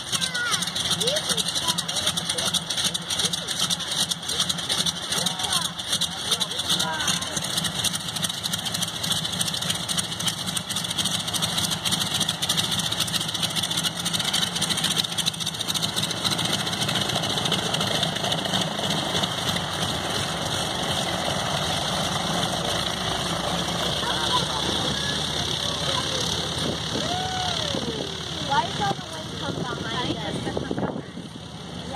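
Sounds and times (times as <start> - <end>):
twin radial aircraft engines running: 0.0 - 31.9.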